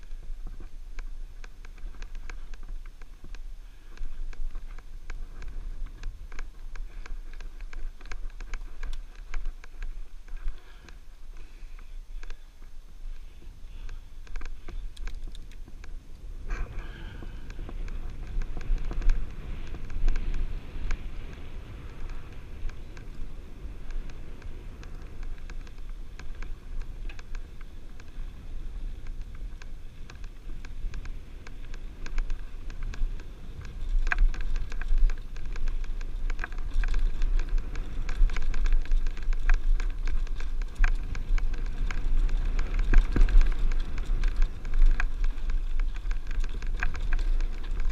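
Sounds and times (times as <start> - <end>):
bike rattling and clicking: 0.0 - 47.9
tyres crunching on dirt and gravel: 0.0 - 47.9
wind rumbling on microphone: 0.0 - 47.9.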